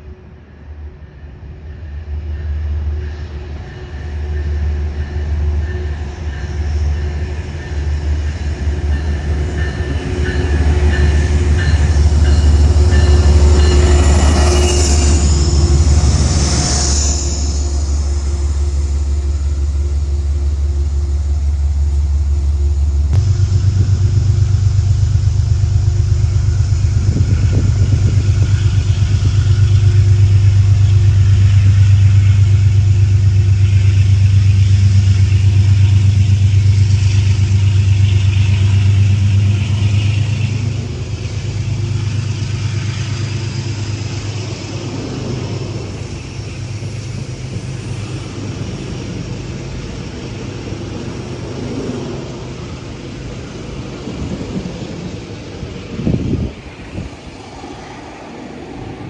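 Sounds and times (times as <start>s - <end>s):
locomotive engine humming: 0.0s - 59.0s.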